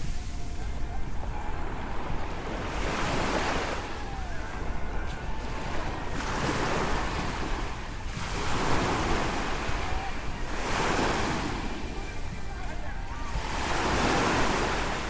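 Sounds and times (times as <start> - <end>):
waves breaking on sandy shore: 0.0 - 15.0
wind buffeting microphone: 0.0 - 15.0.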